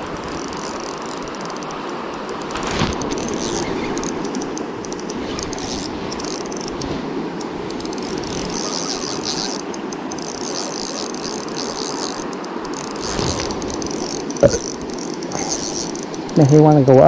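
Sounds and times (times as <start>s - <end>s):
river rushing over riffle: 0.0s - 16.6s.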